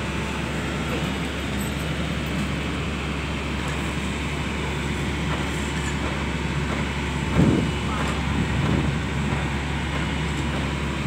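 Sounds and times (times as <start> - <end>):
industrial noise: 0.0 - 11.0
low engine drone: 0.0 - 11.0.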